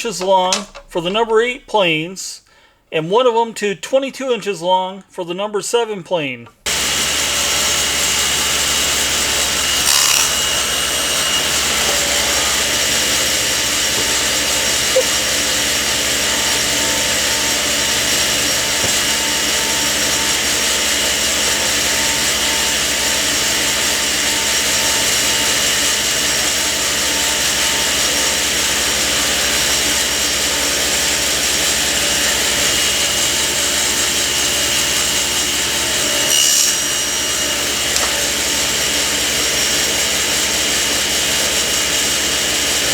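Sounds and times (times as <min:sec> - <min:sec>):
power saw running: 0:00.0 - 0:01.8, 0:06.6 - 0:42.9.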